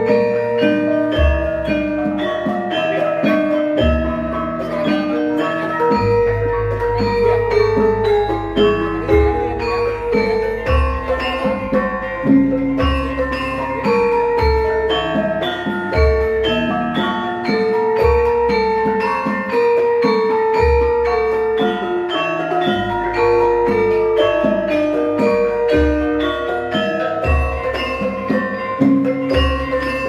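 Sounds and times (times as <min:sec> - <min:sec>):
metallophones ringing melody: 0:00.0 - 0:30.0.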